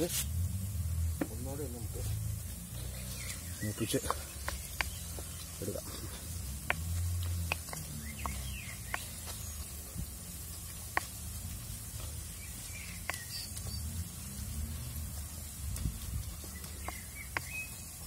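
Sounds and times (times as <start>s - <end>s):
food sizzling in hot oil: 0.0s - 18.0s
oil popping: 0.0s - 18.0s.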